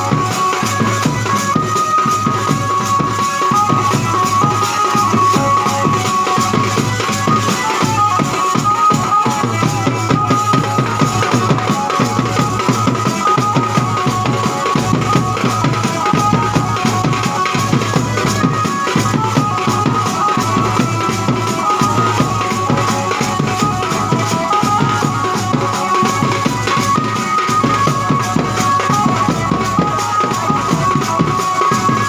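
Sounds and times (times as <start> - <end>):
fast dense drumming: 0.0 - 32.0.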